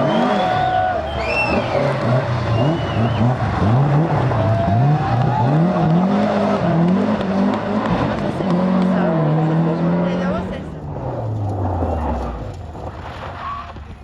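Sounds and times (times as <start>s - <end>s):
rally car engine revving: 0.0s - 13.8s.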